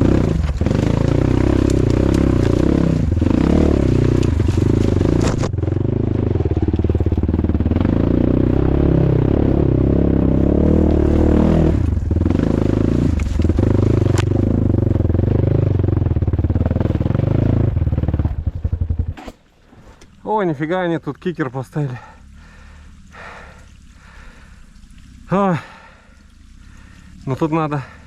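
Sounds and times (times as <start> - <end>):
off-road motorcycle engine: 0.0 - 28.0.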